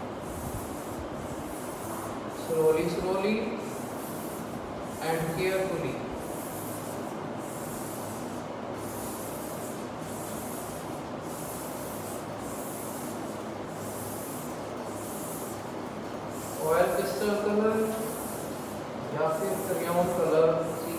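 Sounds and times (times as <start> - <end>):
chalk scratching on blackboard: 0.2 - 20.9.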